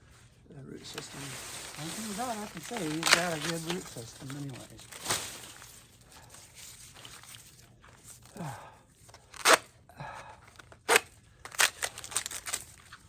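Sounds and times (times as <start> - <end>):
plants crunching and tearing: 0.8 - 9.8, 10.5 - 13.0.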